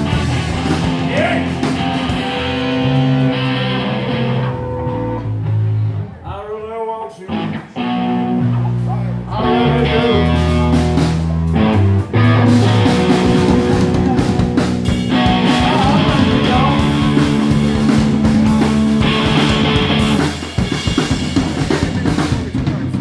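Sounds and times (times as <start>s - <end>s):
drum kit: 0.0s - 6.1s, 7.3s - 23.0s
bass guitar: 0.0s - 23.0s
guitar: 0.0s - 23.0s.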